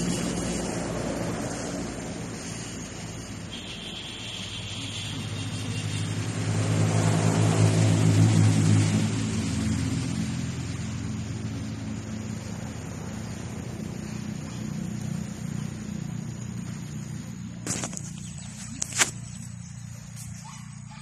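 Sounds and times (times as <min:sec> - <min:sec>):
distant engine drone: 0:00.0 - 0:21.0.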